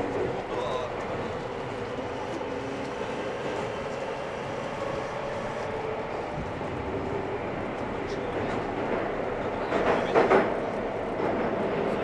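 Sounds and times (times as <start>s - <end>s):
train wheel-on-rail rumble: 0.0s - 12.0s.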